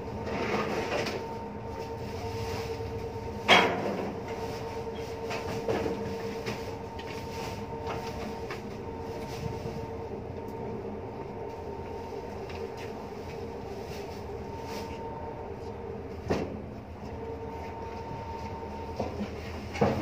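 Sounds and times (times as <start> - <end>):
ship machinery humming: 0.0 - 20.0.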